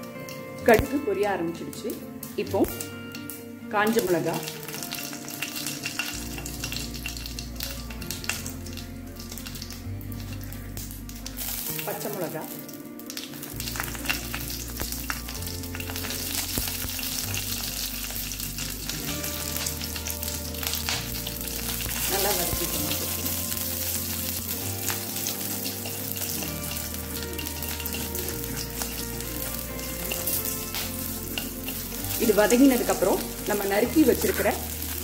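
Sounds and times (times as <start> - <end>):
chillies sizzling in hot oil: 0.0 - 35.0.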